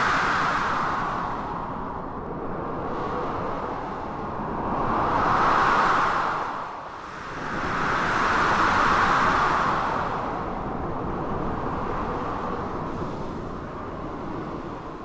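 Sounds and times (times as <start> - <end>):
blizzard wind: 0.0 - 15.0.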